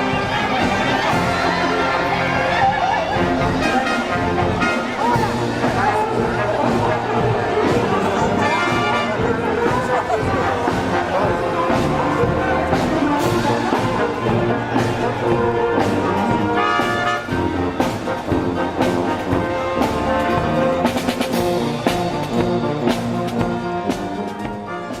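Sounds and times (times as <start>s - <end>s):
trumpets and trombones: 0.0s - 25.0s.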